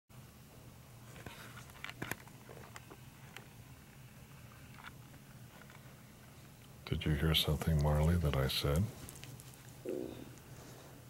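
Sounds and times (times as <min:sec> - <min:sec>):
low room hum: 0:00.1 - 0:11.0.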